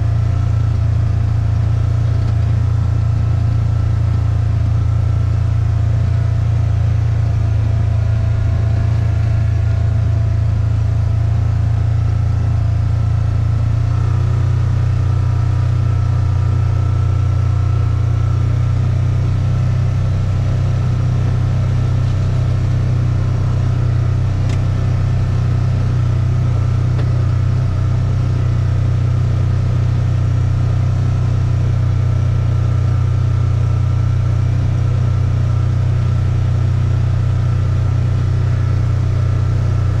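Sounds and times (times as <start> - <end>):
low engine drone: 0.0 - 40.0.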